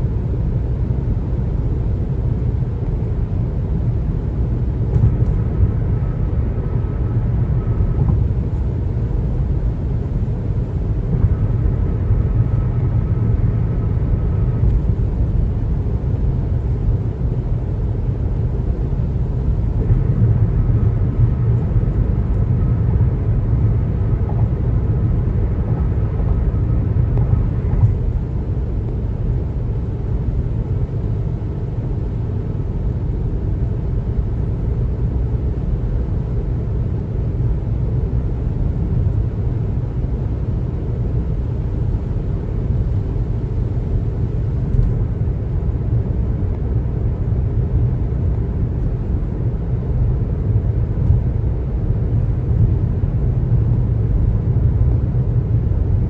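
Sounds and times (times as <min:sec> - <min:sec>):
car tyre noise at highway speed: 0:00.0 - 0:56.0.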